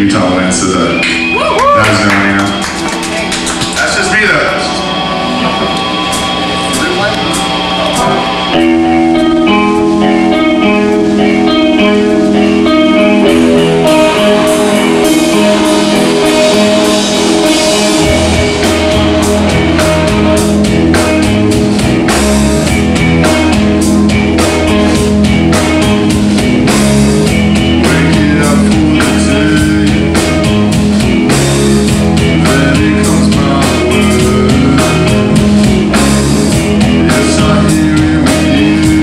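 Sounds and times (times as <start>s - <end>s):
drum kit: 0.0s - 39.0s
electric guitars: 0.0s - 39.0s
low bass notes: 0.0s - 39.0s.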